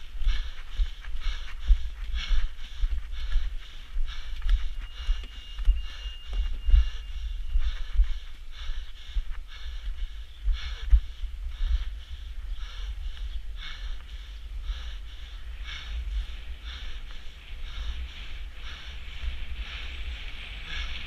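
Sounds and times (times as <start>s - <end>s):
person panting hard: 0.0s - 21.0s
wind rumbling on microphone: 0.0s - 21.0s.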